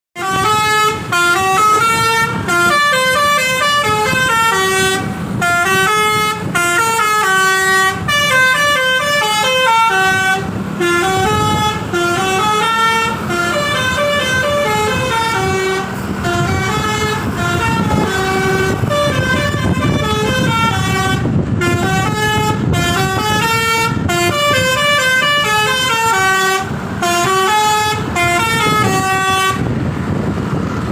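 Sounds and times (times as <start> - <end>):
bus horn playing a tune: 0.2 - 30.2.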